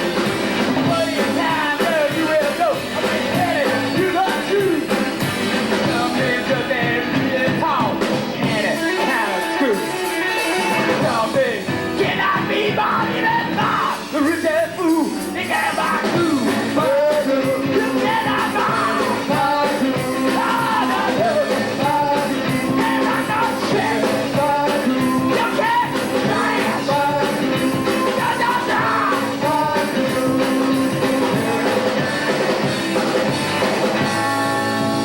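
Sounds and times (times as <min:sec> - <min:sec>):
rock band playing: 0:00.0 - 0:35.0
person singing: 0:00.8 - 0:05.0, 0:05.8 - 0:32.4, 0:34.0 - 0:35.0.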